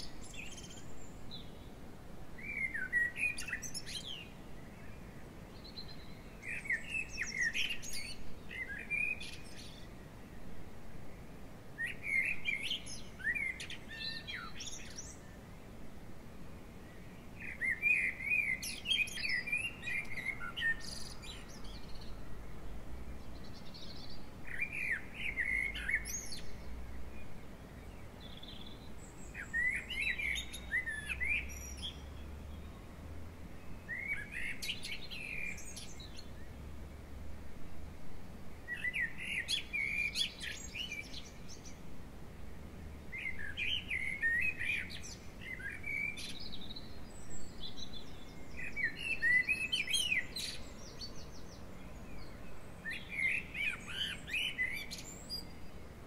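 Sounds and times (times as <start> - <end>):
songbird chirping and warbling: 2.4 - 15.5, 16.8 - 22.5, 23.1 - 37.2, 38.2 - 41.9, 42.7 - 56.0.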